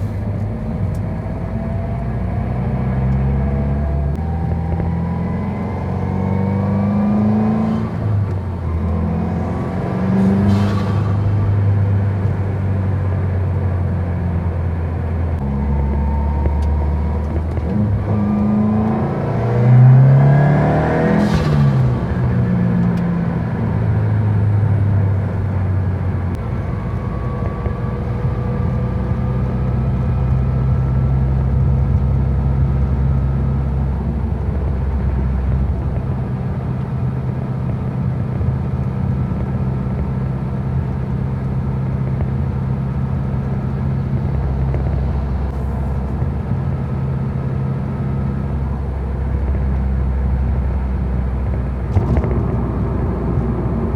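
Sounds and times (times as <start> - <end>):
car engine droning while cruising: 0.0 - 53.9.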